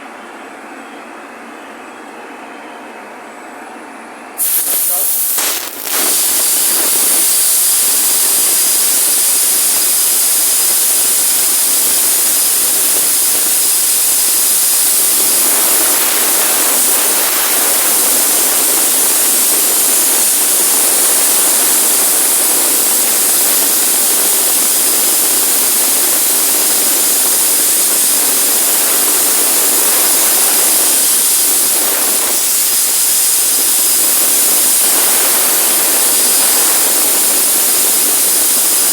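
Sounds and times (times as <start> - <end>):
plasma cutting torch hissing: 4.4 - 38.9.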